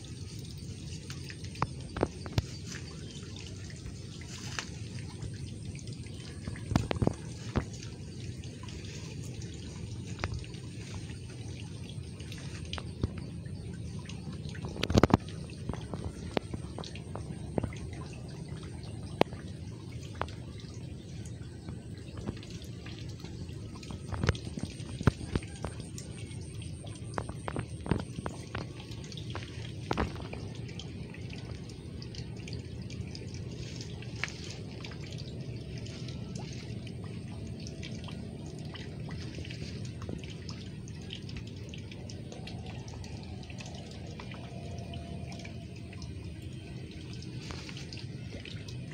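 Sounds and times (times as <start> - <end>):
steady low rumble: 0.0 - 48.9
water dripping and splashing: 0.0 - 48.9.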